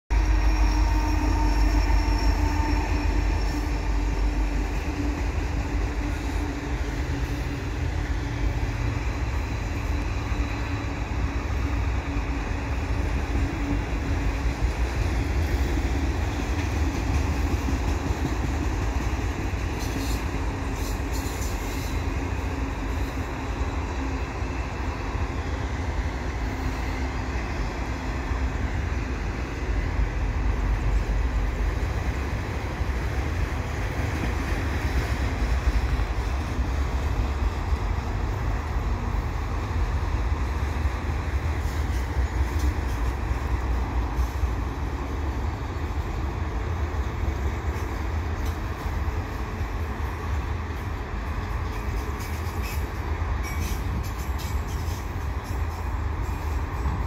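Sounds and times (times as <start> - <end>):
freight train rolling past: 0.1 - 57.0.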